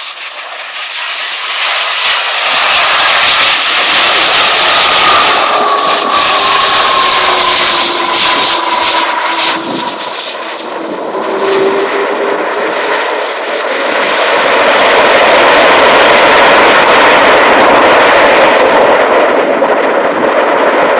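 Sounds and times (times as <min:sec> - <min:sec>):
jet engine whine: 0:00.0 - 0:20.9
rush of jet engine noise: 0:00.0 - 0:20.9.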